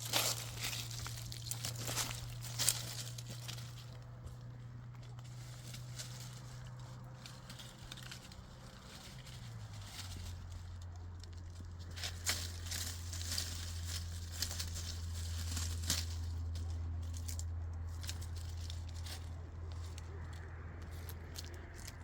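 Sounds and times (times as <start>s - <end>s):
rustling crinkling handling: 0.0s - 22.0s
steady low hum: 0.0s - 22.0s.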